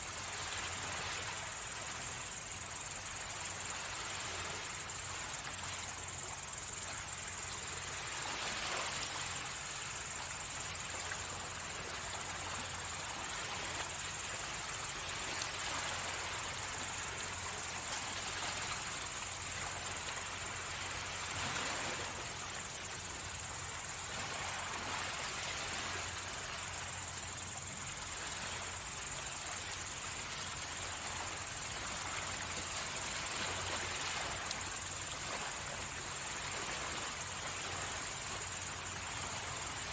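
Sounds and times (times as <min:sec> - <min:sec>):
crickets chirring: 0:00.0 - 0:39.9
sea waves washing onto shore: 0:00.0 - 0:39.9.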